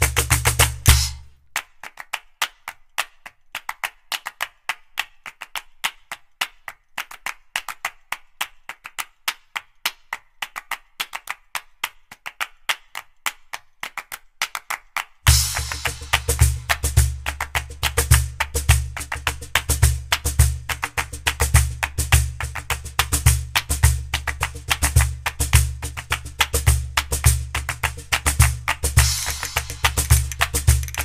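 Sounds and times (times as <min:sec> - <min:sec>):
clap-like percussion rhythm: 0:00.0 - 0:31.0.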